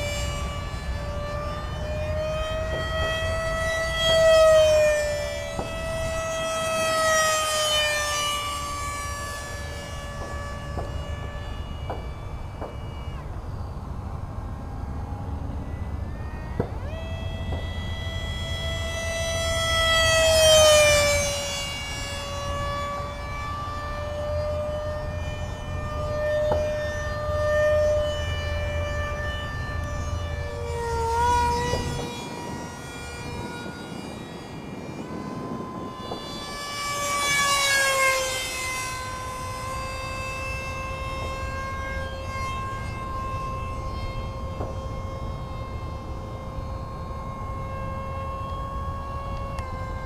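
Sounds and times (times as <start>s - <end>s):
electric jet fan whining: 0.0s - 50.0s.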